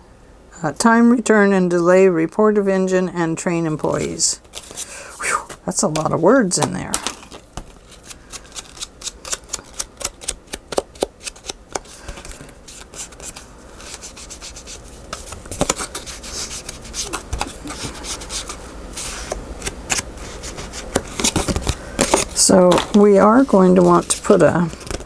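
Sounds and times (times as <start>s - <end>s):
paper rustling: 3.7s - 25.0s
paper cards rubbing and sliding: 3.8s - 25.0s.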